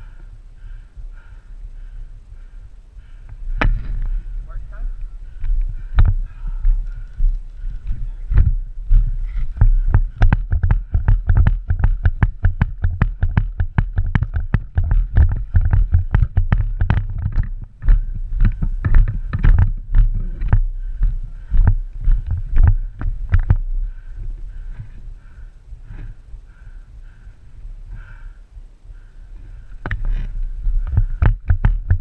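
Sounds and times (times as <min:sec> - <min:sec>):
low rumble on microphone: 0:00.0 - 0:32.0.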